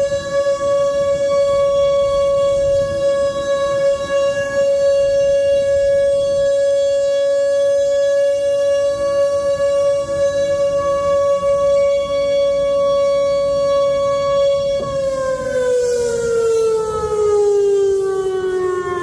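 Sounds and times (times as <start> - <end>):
electronic siren steady tone: 0.0 - 19.0.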